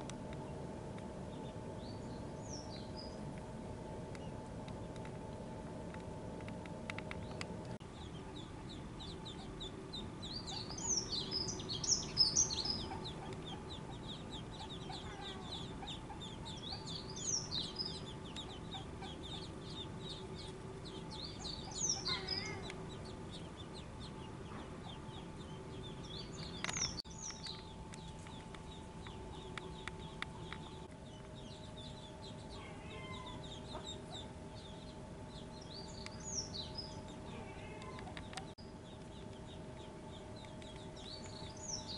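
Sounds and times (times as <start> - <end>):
ducklings peeping: 0.0 - 3.4, 4.1 - 5.1, 6.4 - 41.9.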